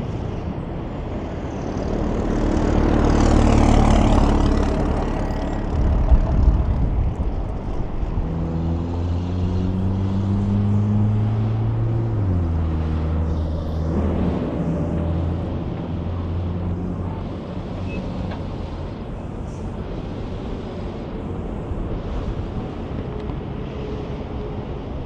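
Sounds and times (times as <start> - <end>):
diesel engine: 0.0 - 25.0
tyre and road noise: 0.0 - 25.0.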